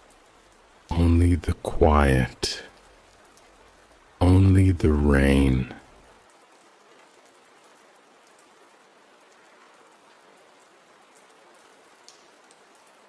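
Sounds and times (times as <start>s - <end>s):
soft rain falling: 0.0s - 13.0s.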